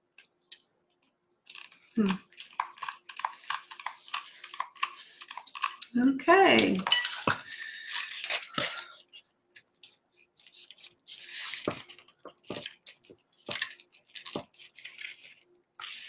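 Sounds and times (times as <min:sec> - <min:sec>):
paper rustling: 0:00.0 - 0:05.8, 0:06.5 - 0:16.0
aluminium foil crinkling: 0:00.0 - 0:16.0.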